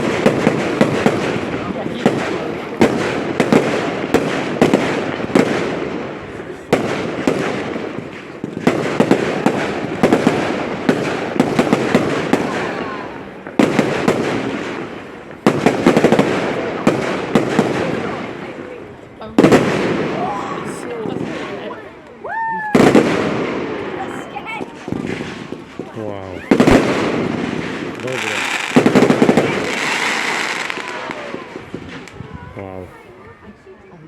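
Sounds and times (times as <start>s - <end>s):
fireworks bangs with crackling: 0.0s - 33.5s.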